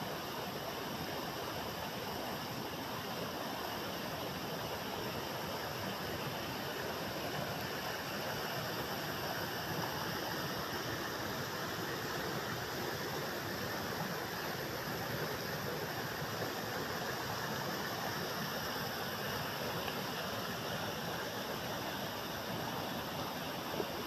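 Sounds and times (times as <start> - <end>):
forest stream flowing: 0.0 - 24.0.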